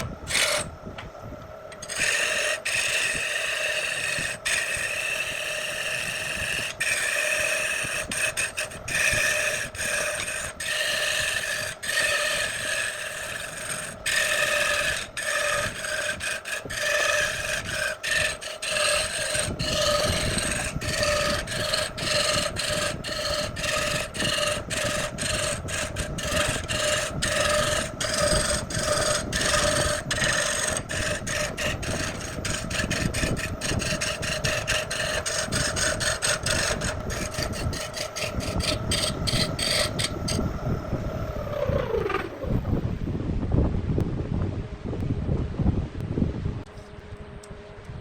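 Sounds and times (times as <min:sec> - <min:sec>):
cutting tool rasping on wood: 0:00.0 - 0:00.7, 0:01.7 - 0:42.6
wood lathe humming: 0:00.0 - 0:42.8.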